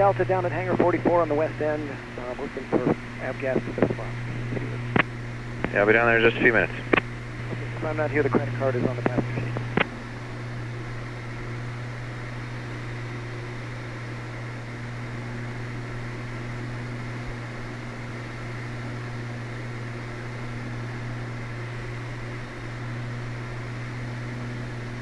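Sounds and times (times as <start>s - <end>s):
propeller plane engines droning: 0.0s - 25.0s.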